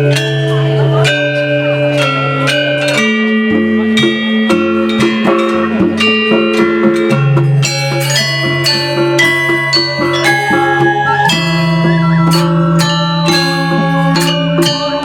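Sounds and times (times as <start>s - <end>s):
low ringing tones: 0.0s - 15.0s
metallophone melodic runs: 0.0s - 15.0s
drum strokes: 2.1s - 15.0s.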